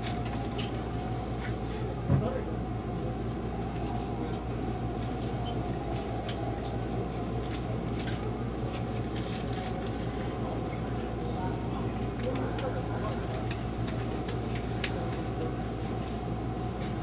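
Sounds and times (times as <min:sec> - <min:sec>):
train car equipment humming: 0:00.0 - 0:17.0.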